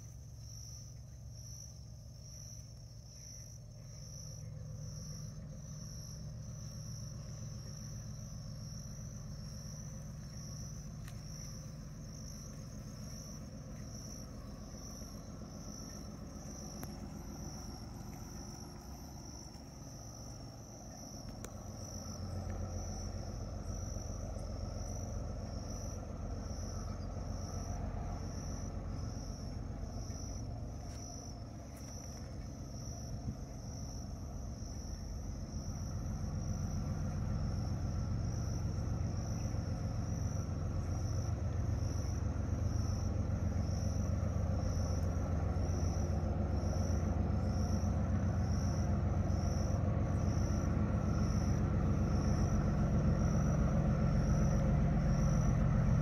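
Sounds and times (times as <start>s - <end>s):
diesel locomotive rumble: 0.0s - 56.0s
insect chirping: 0.0s - 56.0s.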